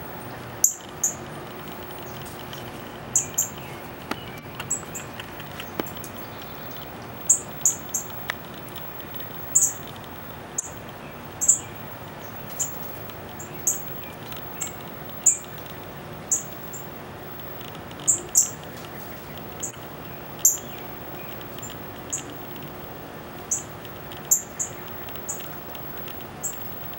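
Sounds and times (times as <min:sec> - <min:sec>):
bird chip calls: 0:00.6 - 0:26.9.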